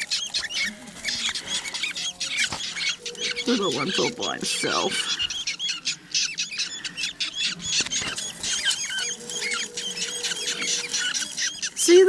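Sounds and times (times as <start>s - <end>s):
chicks cheeping and squeaking: 0.0s - 12.0s.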